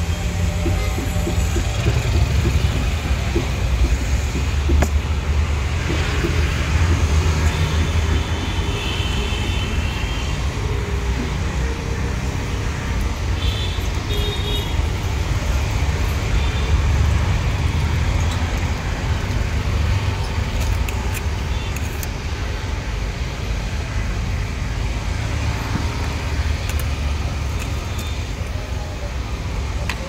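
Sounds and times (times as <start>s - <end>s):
street traffic rumble: 0.0s - 30.0s.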